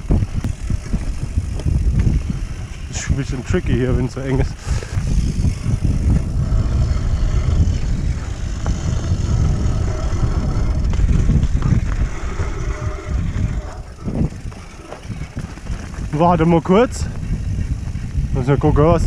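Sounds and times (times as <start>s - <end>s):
tyres rumbling over dirt: 0.0s - 19.0s
wind buffeting camera: 0.0s - 19.0s.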